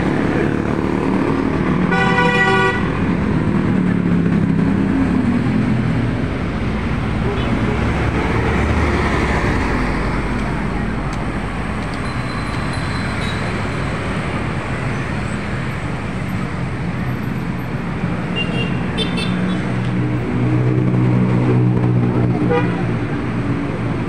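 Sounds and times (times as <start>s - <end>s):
road traffic passing: 0.0s - 24.0s.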